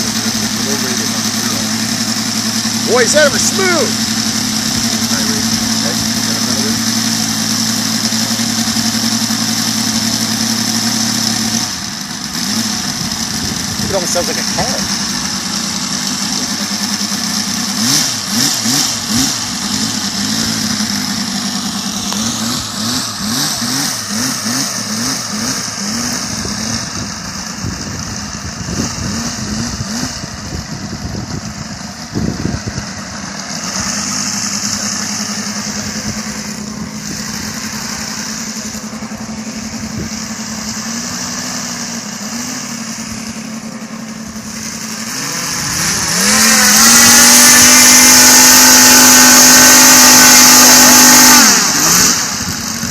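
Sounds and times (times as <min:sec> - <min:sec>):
model aircraft engine running: 0:00.0 - 0:52.9.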